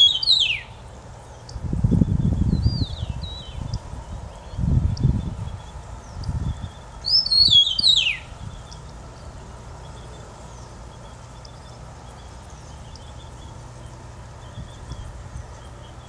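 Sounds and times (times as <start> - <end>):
meadowlark singing: 0.0 - 16.0.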